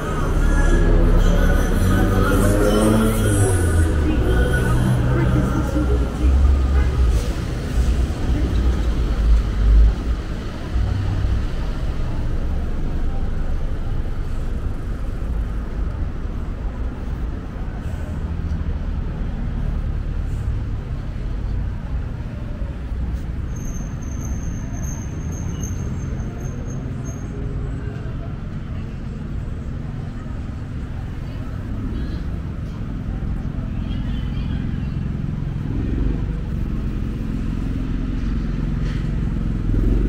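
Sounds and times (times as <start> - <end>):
rumble of passing vehicles: 0.0 - 40.0.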